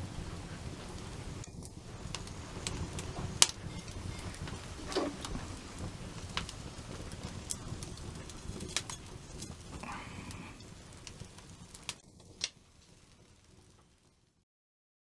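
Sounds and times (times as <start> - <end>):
campfire low rumble: 0.0 - 14.4
fire pops and crackles: 0.0 - 14.4.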